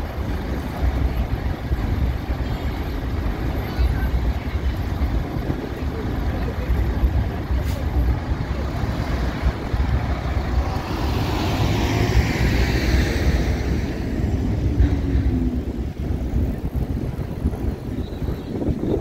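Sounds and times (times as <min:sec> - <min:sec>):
coach pulling away: 0:00.0 - 0:19.0
low rumble of city traffic: 0:00.0 - 0:19.0.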